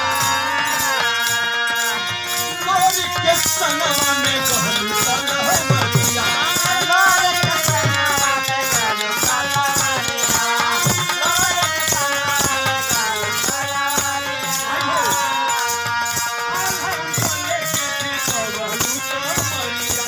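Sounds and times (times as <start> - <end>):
devotional folk music: 0.0 - 20.0
hand drums: 0.0 - 20.0
rattle-like beat: 0.0 - 20.0.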